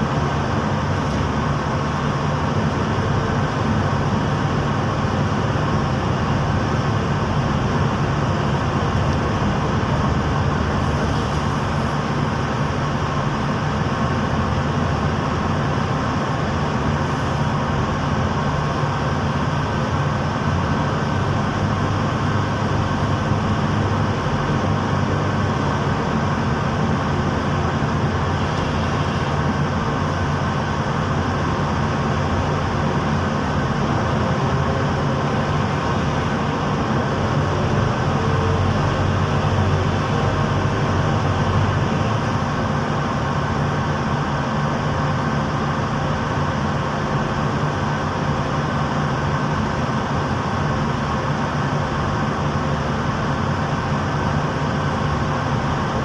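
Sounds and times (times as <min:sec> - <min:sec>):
heavy machinery engine drone: 0:00.0 - 0:56.0.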